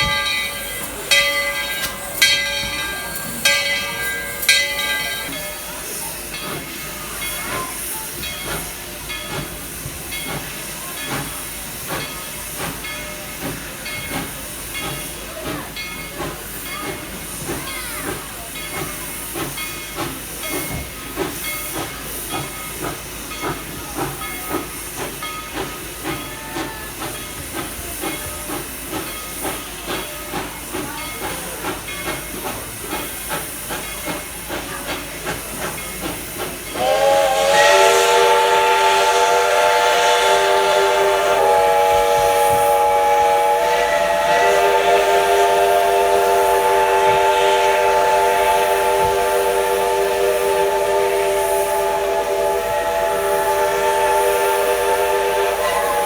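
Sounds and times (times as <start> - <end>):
chime steam whistle: 0.0 - 34.7, 35.3 - 56.0
steam locomotive hissing: 0.0 - 56.0.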